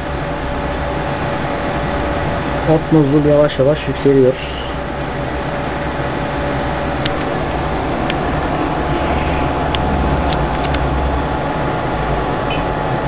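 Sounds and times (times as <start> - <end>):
hot air blower with fans: 0.0 - 13.0.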